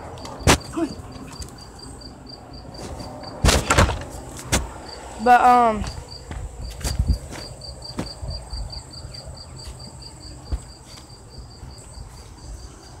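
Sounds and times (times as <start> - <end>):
high insect hum: 0.0 - 13.0
insects chirping: 0.0 - 13.0.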